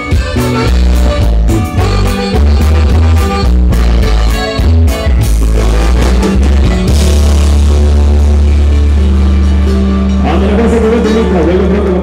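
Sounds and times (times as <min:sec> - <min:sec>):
dance band music: 0:00.0 - 0:12.0.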